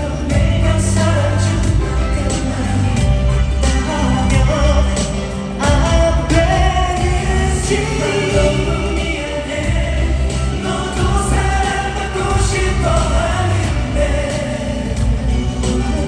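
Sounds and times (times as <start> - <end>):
band with heavy bass: 0.0 - 16.0
male vocal group singing: 0.0 - 16.0.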